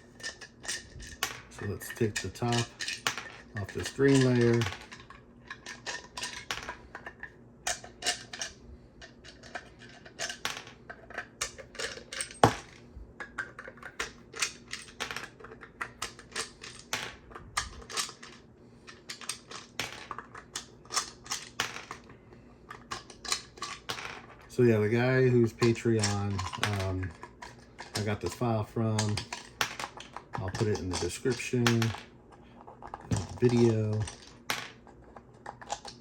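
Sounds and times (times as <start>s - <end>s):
plastic parts clicking and clattering: 0.1s - 36.0s.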